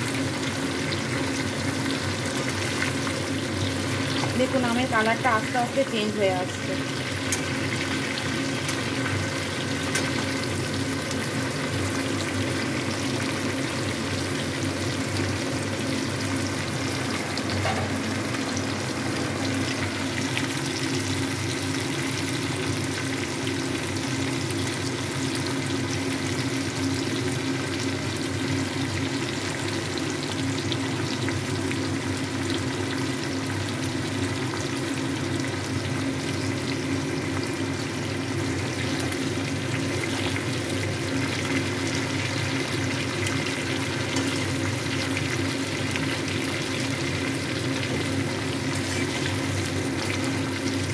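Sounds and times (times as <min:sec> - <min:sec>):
mango frying in sizzling oil: 0:00.0 - 0:50.9.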